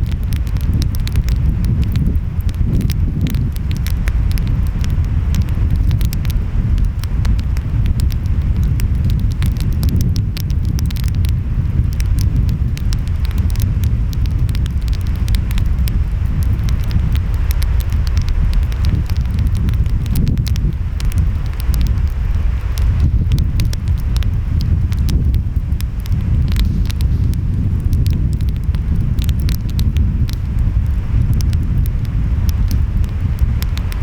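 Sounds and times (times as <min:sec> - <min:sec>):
wind: 0:00.0 - 0:34.0
wood fire crackling and popping: 0:00.0 - 0:34.0.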